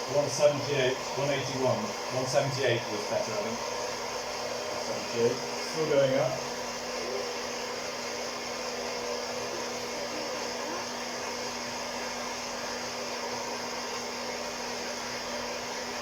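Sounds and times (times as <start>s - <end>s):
coffee roaster fan blowing: 0.0s - 16.0s.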